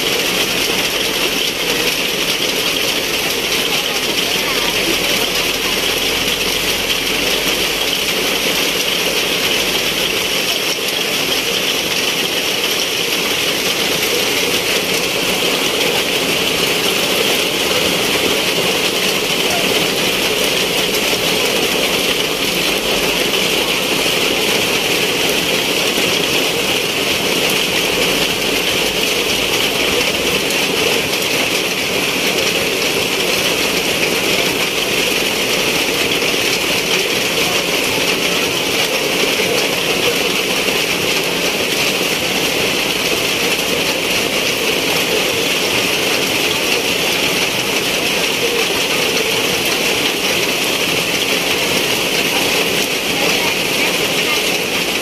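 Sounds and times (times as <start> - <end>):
heavy rain on paving and metal: 0.0 - 55.0.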